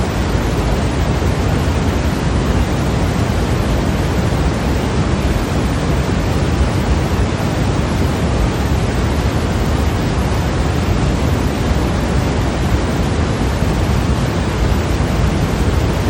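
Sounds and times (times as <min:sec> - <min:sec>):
electronic rushing hiss: 0:00.0 - 0:16.0.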